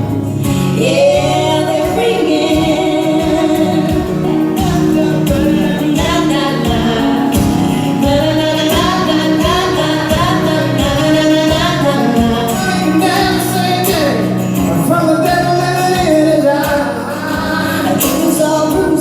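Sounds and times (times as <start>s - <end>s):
strummed acoustic guitar: 0.0s - 19.0s
woman singing: 0.0s - 19.0s.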